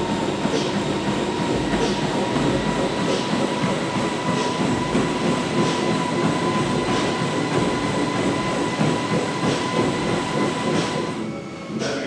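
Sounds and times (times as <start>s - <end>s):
faint regular beat: 0.0s - 11.2s
treadmill belt rumble: 0.0s - 12.0s
treadmill motor whine: 0.0s - 12.0s.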